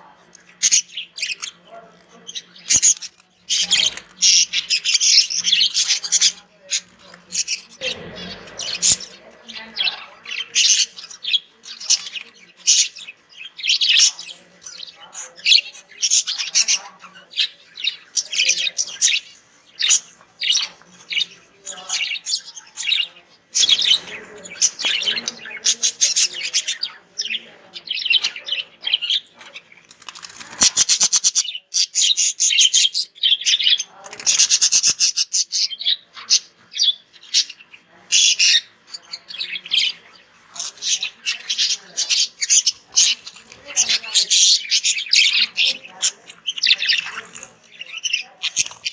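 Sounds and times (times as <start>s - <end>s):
budgerigar clicking chatter: 0.0s - 48.9s
budgerigars chirping and warbling: 0.0s - 48.9s.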